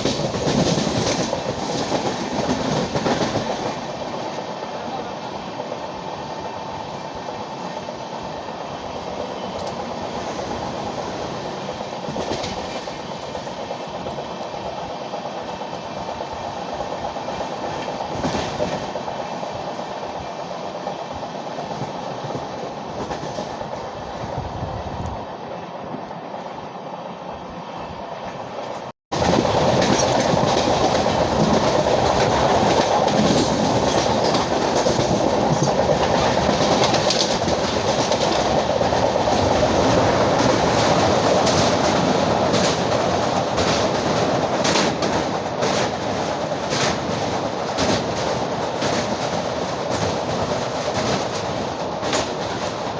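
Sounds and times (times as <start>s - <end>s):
clickety-clack over rail joints: 0.0s - 24.4s, 28.2s - 52.9s
train wheels rumbling on rails: 0.0s - 52.9s.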